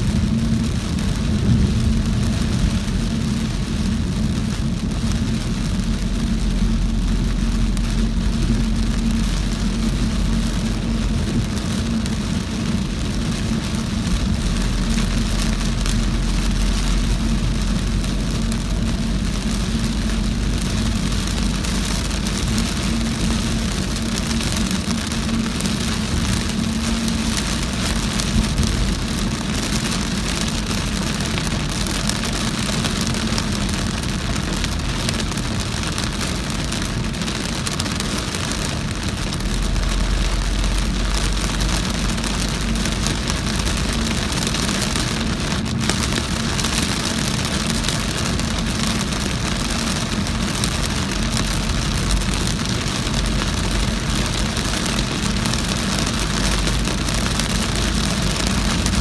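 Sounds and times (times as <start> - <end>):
car engine and tyres drone: 0.0 - 59.0
heavy rain on car: 0.0 - 59.0.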